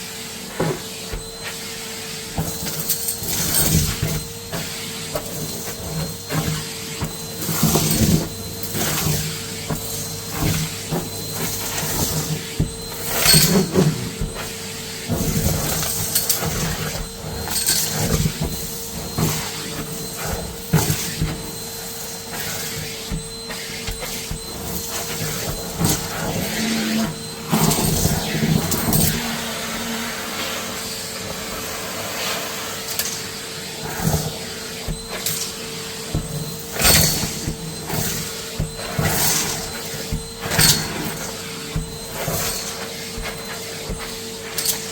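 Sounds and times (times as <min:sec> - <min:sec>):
vacuum cleaner motor hum: 0:00.0 - 0:44.9.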